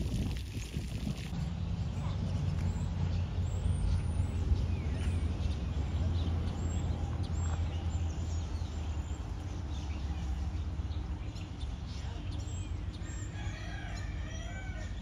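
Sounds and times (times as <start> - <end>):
small birds chirping: 1.0 - 15.0.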